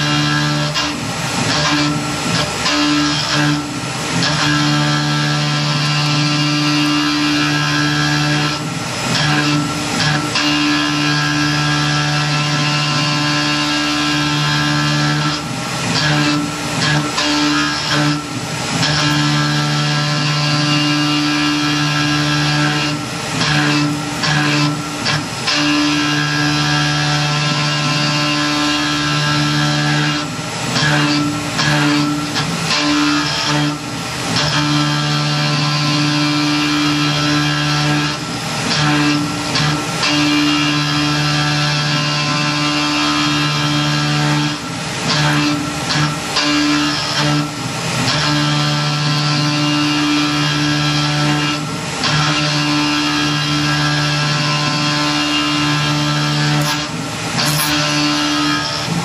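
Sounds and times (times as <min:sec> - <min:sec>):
milling machine cutting metal: 0:00.0 - 0:59.0.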